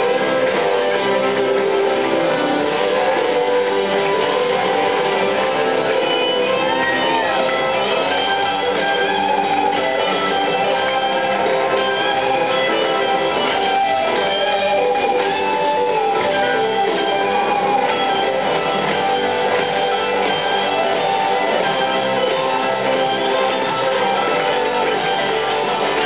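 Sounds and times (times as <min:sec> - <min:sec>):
drums: 0:00.0 - 0:26.0
electric guitars: 0:00.0 - 0:26.0.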